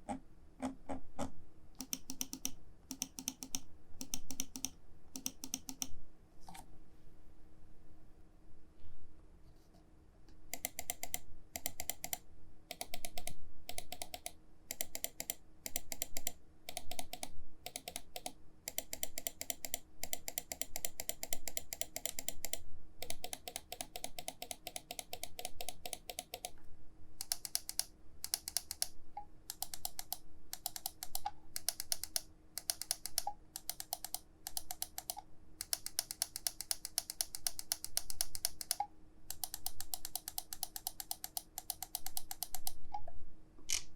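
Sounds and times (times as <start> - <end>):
mouse buttons clicking rapidly: 0.0 - 6.0, 10.5 - 26.6, 27.2 - 42.8.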